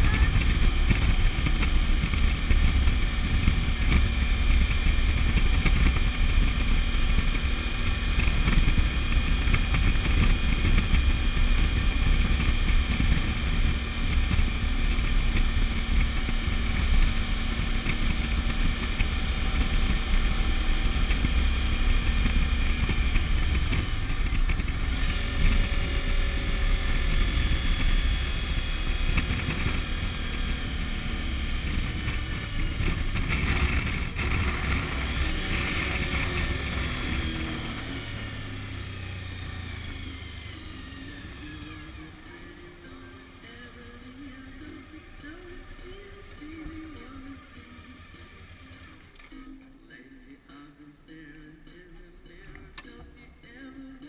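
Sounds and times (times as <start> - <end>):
motorcycle engine running: 0.0 - 49.6.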